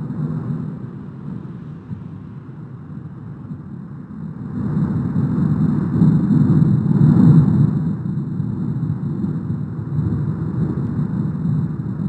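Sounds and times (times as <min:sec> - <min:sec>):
volcanic vent roaring: 0:00.0 - 0:12.0.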